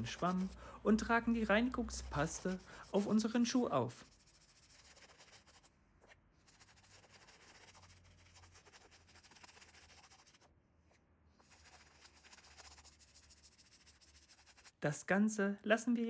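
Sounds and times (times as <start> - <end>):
toothbrush scrubbing a sneaker: 0.0 - 0.6, 1.2 - 10.5, 11.4 - 14.8.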